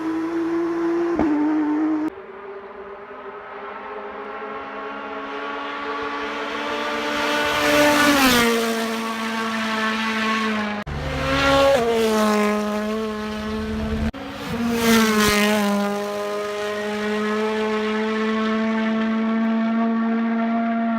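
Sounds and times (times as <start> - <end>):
rally cars driving past: 0.0 - 20.9.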